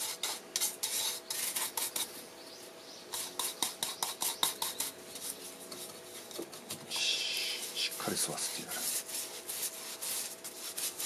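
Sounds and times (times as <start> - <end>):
rubbing strokes on wooden bowl: 0.0 - 2.2, 3.1 - 11.0.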